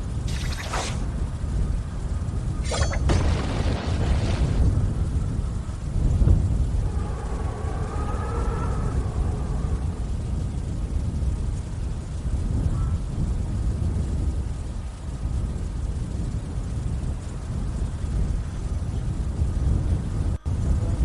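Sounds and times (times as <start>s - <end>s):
faint wavering wind howl: 0.0s - 21.0s
wind buffeting microphone: 0.0s - 21.0s.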